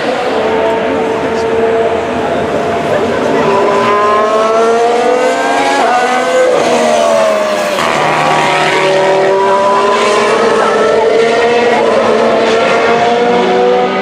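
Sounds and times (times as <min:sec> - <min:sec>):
racing car engines at speed: 0:00.0 - 0:14.0.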